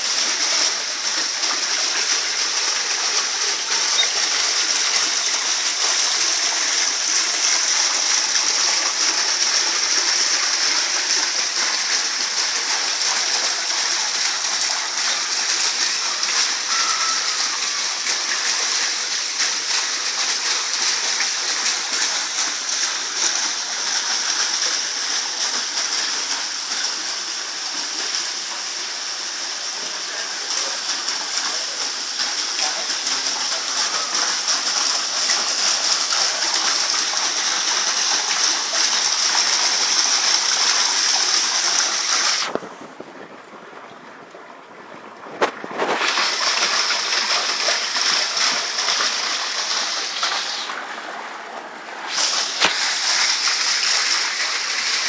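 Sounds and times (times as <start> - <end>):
waterfall splashing into pond: 0.0 - 55.0.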